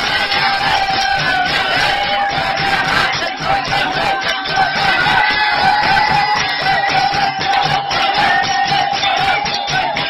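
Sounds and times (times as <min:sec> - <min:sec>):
drum beat: 0:00.0 - 0:10.0
jingling percussion: 0:00.0 - 0:10.0.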